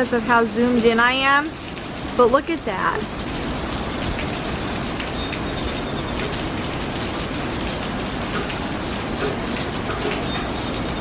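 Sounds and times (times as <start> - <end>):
raindrop hits: 0.0 - 11.0
steady rain falling: 0.0 - 11.0.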